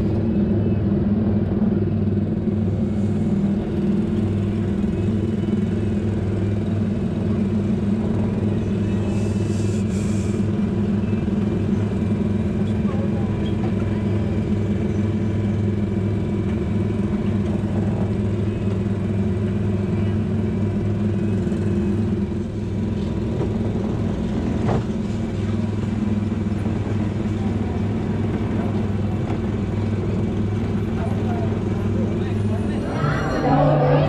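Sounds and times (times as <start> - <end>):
ride car engine humming: 0.0 - 34.0.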